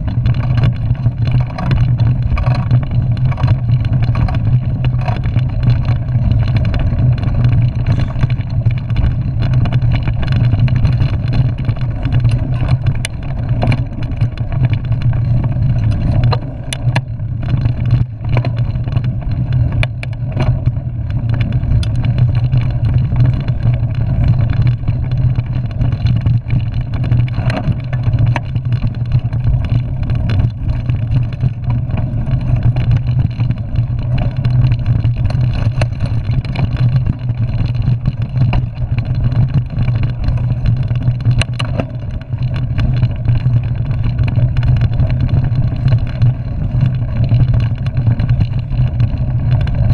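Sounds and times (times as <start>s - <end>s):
bike knocks and rattles: 0.0s - 49.9s
wind and tyre rumble: 0.0s - 49.9s.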